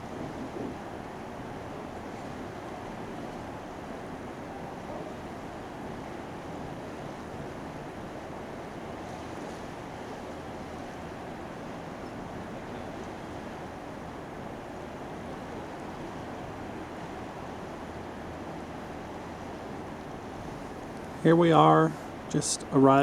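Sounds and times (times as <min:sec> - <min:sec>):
rushing water: 0:00.0 - 0:23.0
wind: 0:00.0 - 0:23.0.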